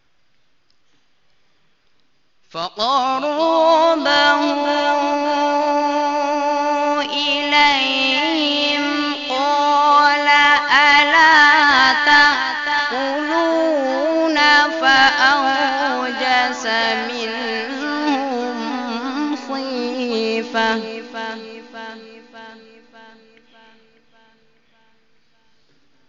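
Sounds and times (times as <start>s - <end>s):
man chanting recitation: 2.5s - 25.0s.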